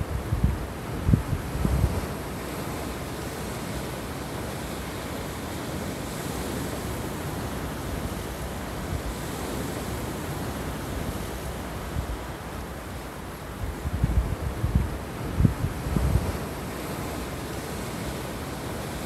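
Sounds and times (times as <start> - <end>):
surf washing over pebble beach: 0.0 - 19.0.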